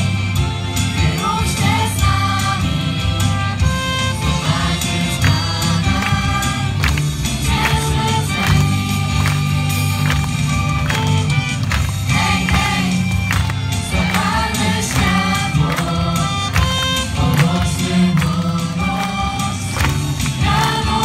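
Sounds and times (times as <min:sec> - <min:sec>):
bass line: 0:00.0 - 0:21.0
choir singing with live band: 0:00.7 - 0:21.0.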